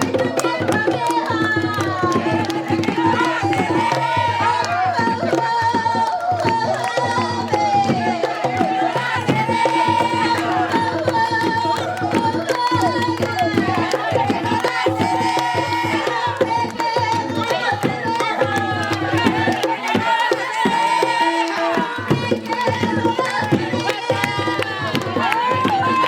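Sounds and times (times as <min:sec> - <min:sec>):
hand drums beating: 0:00.0 - 0:26.0
people singing: 0:00.0 - 0:26.0.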